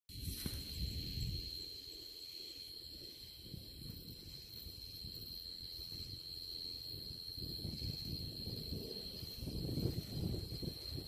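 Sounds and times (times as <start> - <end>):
insects trilling: 0.1 - 11.0.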